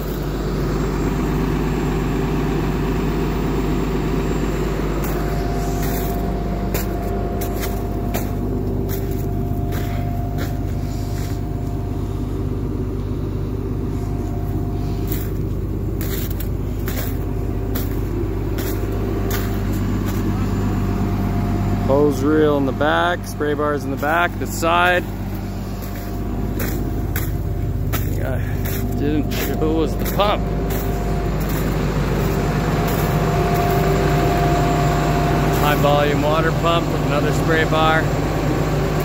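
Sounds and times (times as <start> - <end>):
diesel truck engine idling: 0.0 - 39.0.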